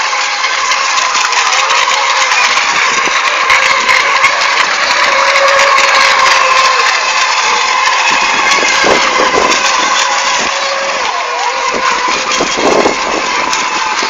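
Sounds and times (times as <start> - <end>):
model boat motor whine: 0.0 - 14.0.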